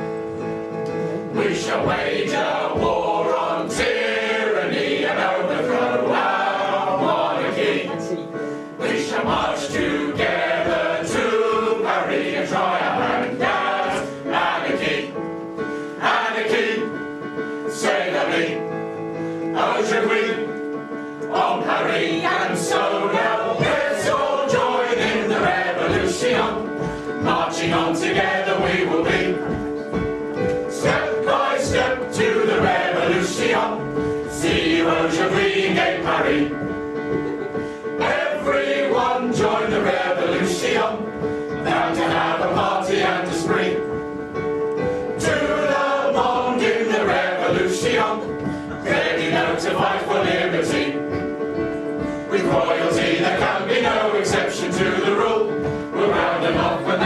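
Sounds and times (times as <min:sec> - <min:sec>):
instrumental accompaniment: 0:00.0 - 0:57.0
chorus singing a show song: 0:01.2 - 0:57.0.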